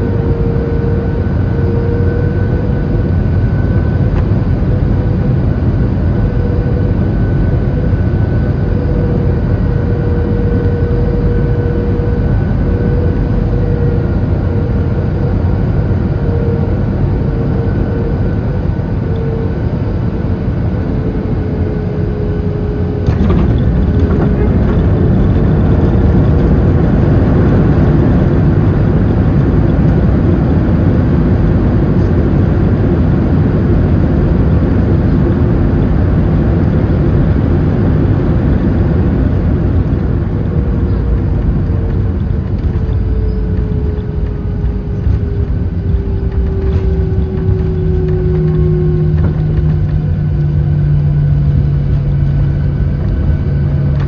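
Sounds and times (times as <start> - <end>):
jet engines and airframe rush: 0.0 - 54.0
steady low hum: 0.0 - 54.0
whine falling in pitch: 0.0 - 54.0.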